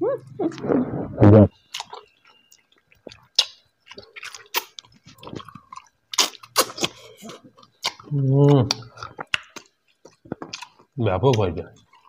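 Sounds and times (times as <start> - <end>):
person chewing with mouth open: 0.5 - 11.0, 11.8 - 12.0.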